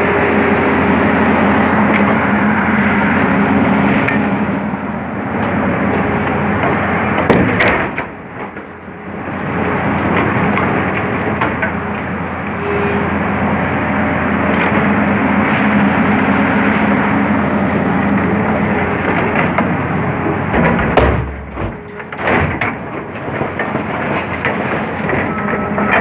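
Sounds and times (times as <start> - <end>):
heavy machine engine hum: 0.0 - 26.0.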